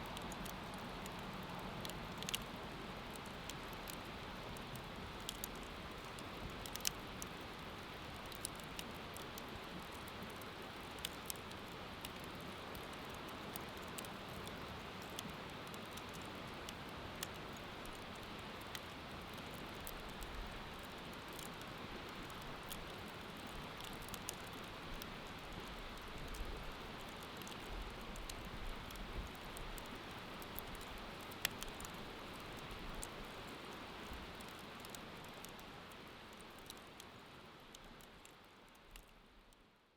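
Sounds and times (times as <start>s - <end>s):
bonfire crackling and popping: 0.1s - 39.2s.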